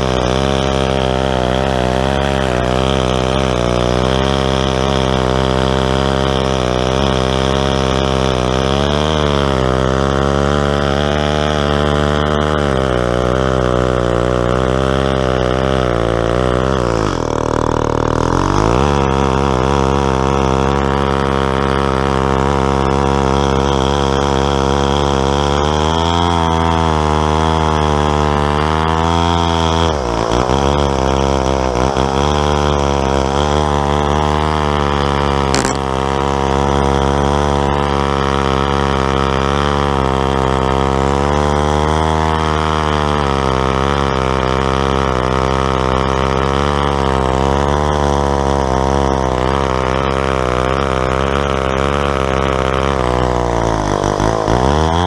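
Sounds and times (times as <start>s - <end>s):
chainsaw ripping a log: 0.0s - 55.0s.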